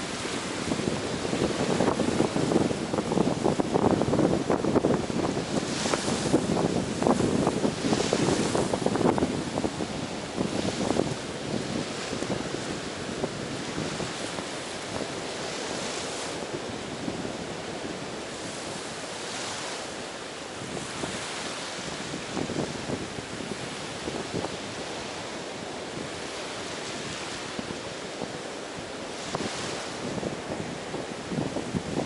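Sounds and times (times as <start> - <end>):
ocean surf on beach: 0.0 - 32.0.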